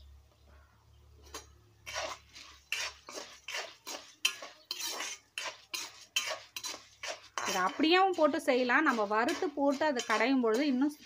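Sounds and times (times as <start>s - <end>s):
spoon scraping a metal pan: 1.2s - 11.0s.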